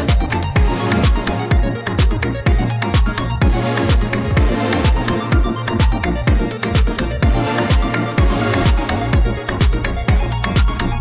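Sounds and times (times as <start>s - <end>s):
crisp percussion: 0.0s - 11.0s
electronic dance music: 0.0s - 11.0s
steady kick drum: 0.0s - 11.0s.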